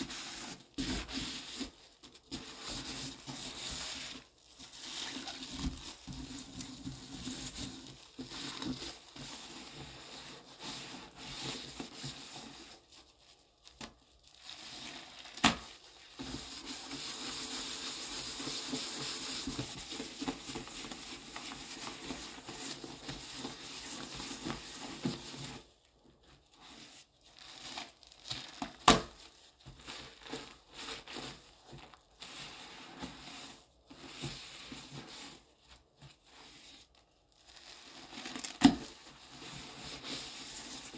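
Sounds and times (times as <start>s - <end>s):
sponge squishing wet paste: 0.0s - 40.9s.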